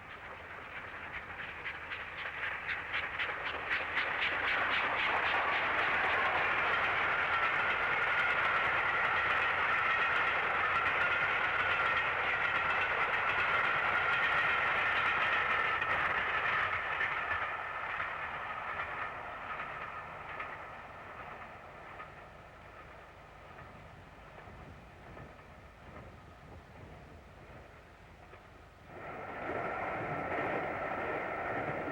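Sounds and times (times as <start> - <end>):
rush of train noise: 0.0 - 31.9
steam locomotive running: 0.0 - 31.9.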